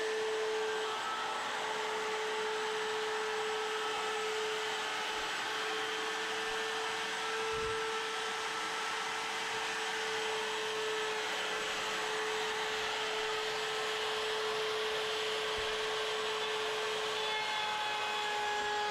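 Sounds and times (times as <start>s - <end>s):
wood router whining: 0.0s - 18.9s.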